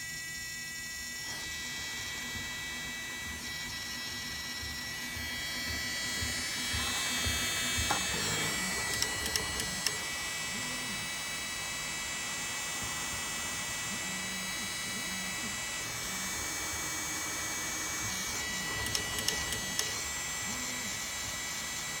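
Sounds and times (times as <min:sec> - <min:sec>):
printer electrical whine: 0:00.0 - 0:22.0.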